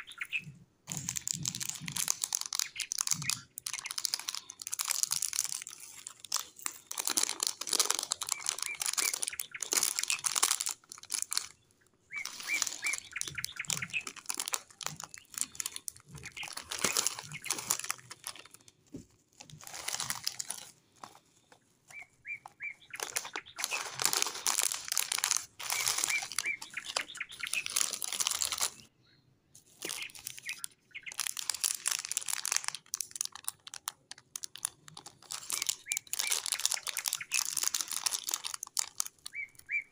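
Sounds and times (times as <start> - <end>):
plastic wrappers crinkling: 0.0 - 28.9, 29.7 - 39.9.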